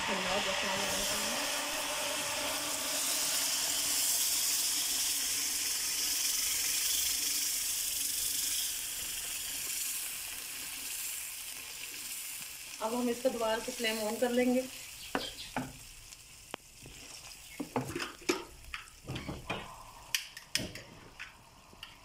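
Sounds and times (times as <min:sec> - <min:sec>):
hot oil sizzling and hissing: 0:00.0 - 0:22.0.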